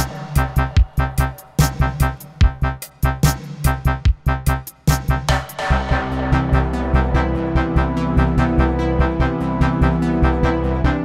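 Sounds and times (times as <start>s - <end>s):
steady beat: 0.0s - 10.6s
synthesizer and electric piano music: 0.0s - 11.0s.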